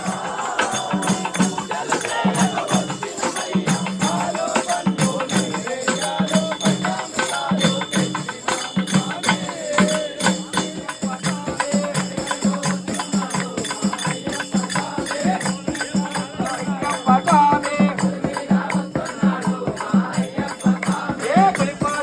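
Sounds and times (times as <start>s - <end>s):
devotional singing: 0.0s - 22.0s
jingling percussion strokes: 0.0s - 22.0s
repeating drum beat: 0.0s - 22.0s.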